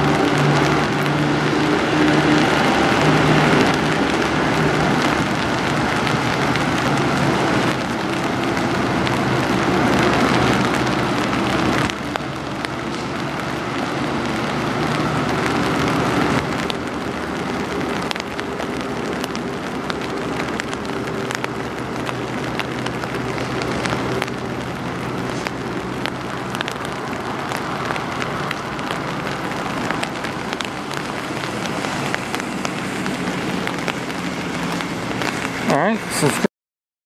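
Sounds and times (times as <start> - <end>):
raindrops on an umbrella: 0.0 - 36.5.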